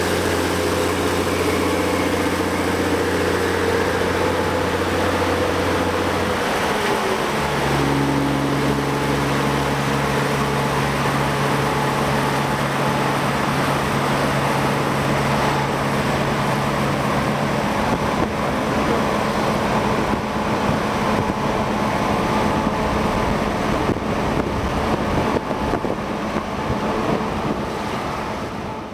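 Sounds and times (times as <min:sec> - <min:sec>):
road and wind noise: 0:00.0 - 0:28.9
truck engine droning: 0:00.0 - 0:28.9.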